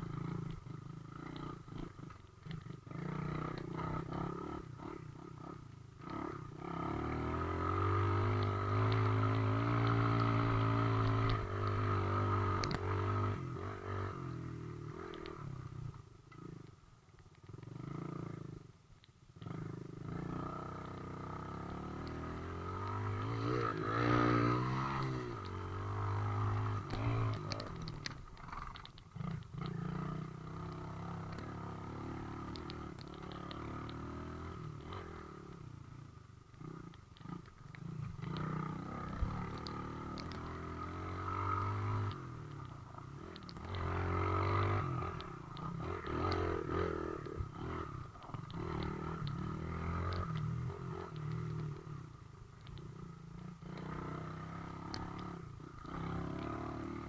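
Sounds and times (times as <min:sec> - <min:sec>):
dirt bike engines passing: 0:00.1 - 0:15.4, 0:19.4 - 0:57.0.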